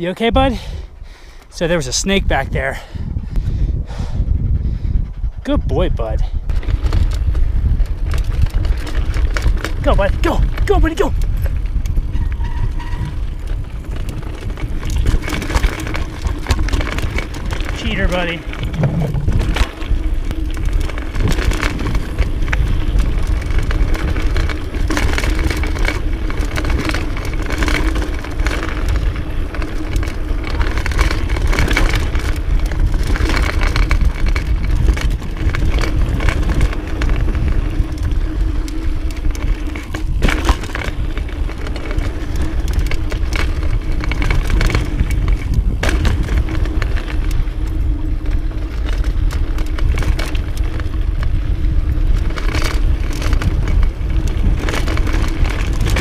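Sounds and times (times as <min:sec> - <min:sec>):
bike tyres crunching over dirt: 0:00.0 - 0:04.1, 0:06.0 - 0:56.0
bike knocks and rattles: 0:06.5 - 0:56.0.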